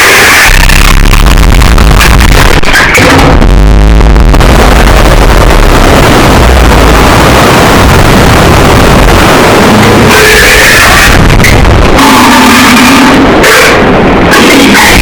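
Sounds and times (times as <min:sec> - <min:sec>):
distorted alien shriek: 0:00.0 - 0:03.6, 0:04.4 - 0:15.0.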